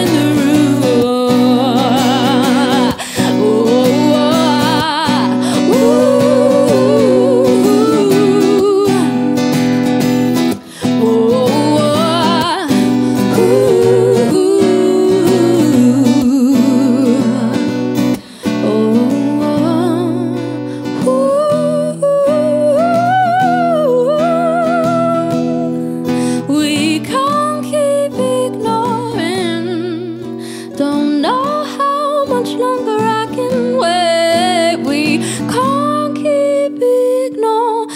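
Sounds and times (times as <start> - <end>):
strummed acoustic guitar: 0.0 - 37.9
women singing with vibrato: 0.0 - 37.9.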